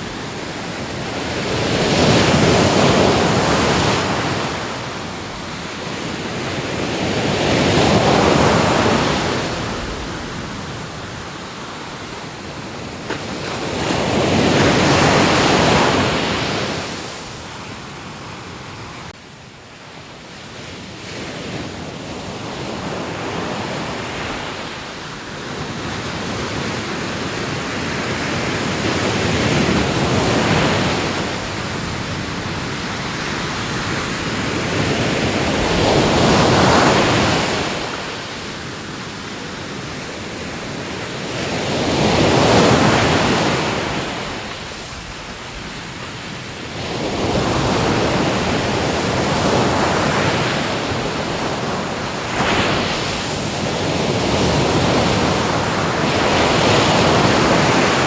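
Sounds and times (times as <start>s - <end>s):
ocean waves breaking: 0.0s - 19.1s, 22.3s - 58.0s.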